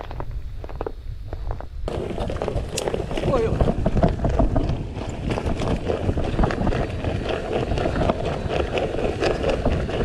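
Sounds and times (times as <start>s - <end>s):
bike tyres rumbling on dirt: 0.0s - 10.0s
wind buffeting microphone: 0.0s - 10.0s
bike rattling and clicking: 1.5s - 10.0s.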